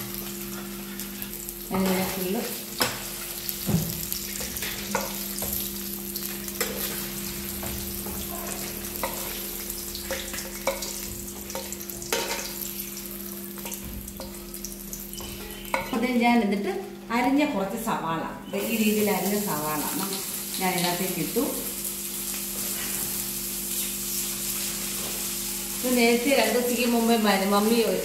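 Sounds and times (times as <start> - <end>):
food sizzling in oil: 0.0 - 16.2, 18.5 - 28.0.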